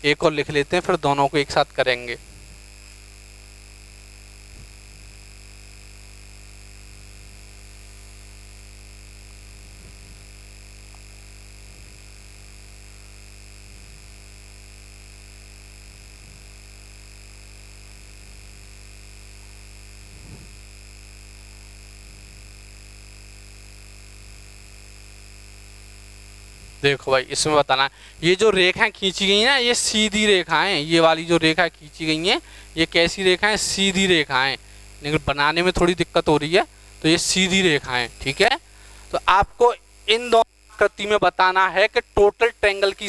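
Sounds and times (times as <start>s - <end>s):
electrical hum and whine: 0.0s - 43.0s.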